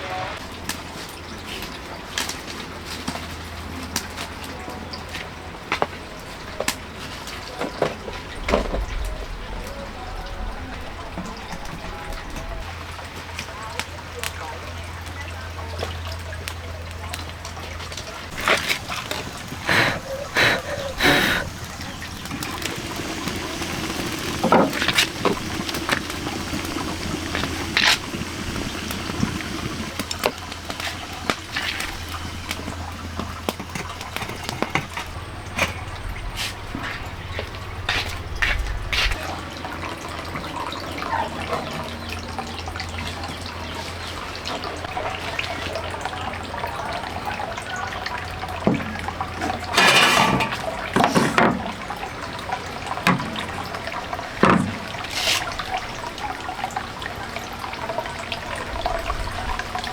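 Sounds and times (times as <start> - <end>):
running splashing water: 0.0 - 59.9.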